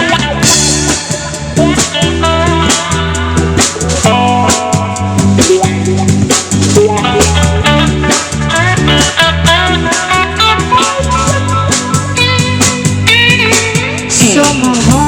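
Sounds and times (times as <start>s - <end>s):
drum strokes: 0.0s - 15.0s
live band playing instrumental: 0.0s - 15.0s.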